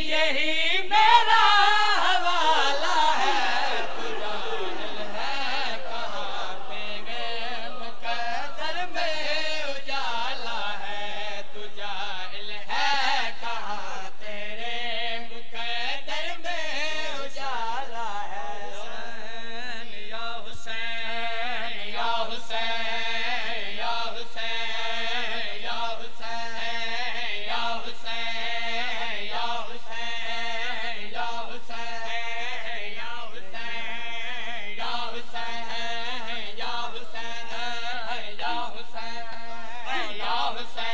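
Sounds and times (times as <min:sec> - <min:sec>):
men chanting a lament: 0:00.0 - 0:40.9.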